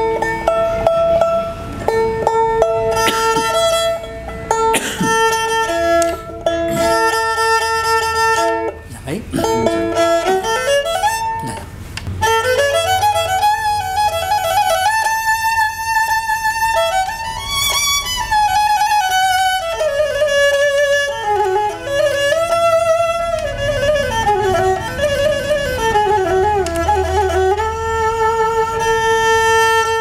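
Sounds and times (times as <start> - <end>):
bowed fiddle melody: 0.0 - 30.0.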